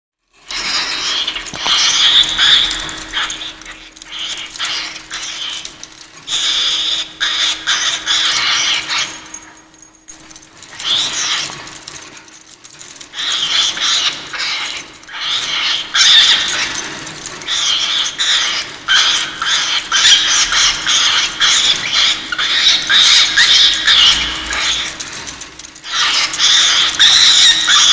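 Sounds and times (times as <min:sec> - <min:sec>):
cockatiel screeching: 0:00.5 - 0:09.6, 0:10.6 - 0:11.8, 0:13.1 - 0:27.9.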